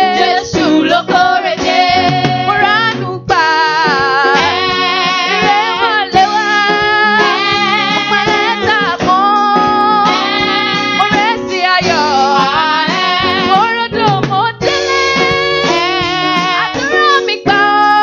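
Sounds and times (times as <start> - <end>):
instrumental accompaniment: 0.0 - 18.0
person singing with vibrato: 0.0 - 18.0.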